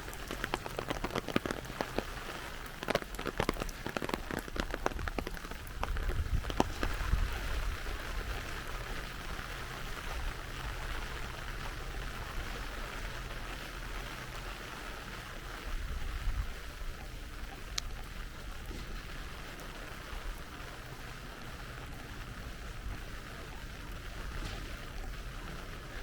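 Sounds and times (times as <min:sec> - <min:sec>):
rain falling: 0:00.0 - 0:26.0
raindrops tapping: 0:00.0 - 0:26.0.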